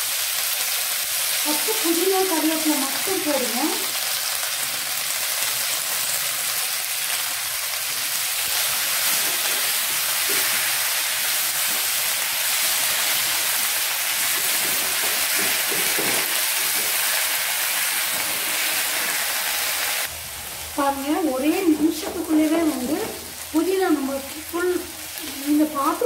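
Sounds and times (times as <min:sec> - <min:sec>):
leaves sizzling in hot oil: 0:00.0 - 0:26.0.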